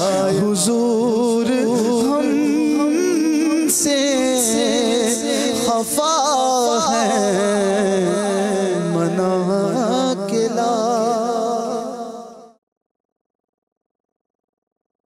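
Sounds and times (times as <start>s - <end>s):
man singing a cappella: 0.0s - 12.6s.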